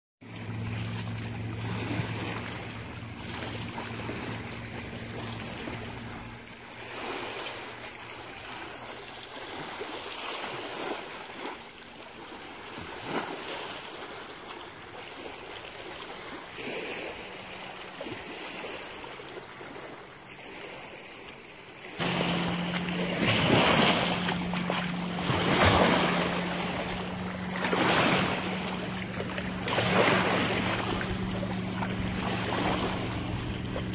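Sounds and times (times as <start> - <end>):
distant motorboat engine hum: 0.2 - 33.9
lake water lapping: 0.2 - 33.9
water sloshing in shallows: 0.2 - 33.9.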